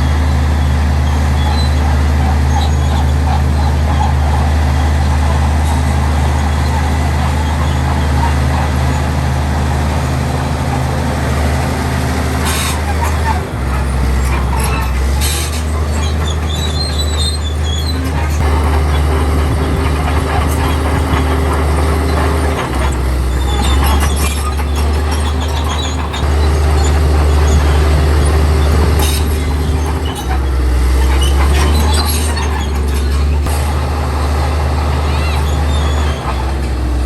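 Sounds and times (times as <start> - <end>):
bulldozer diesel engine droning: 0.0 - 37.0
metallic clanks and squeals: 0.0 - 37.0.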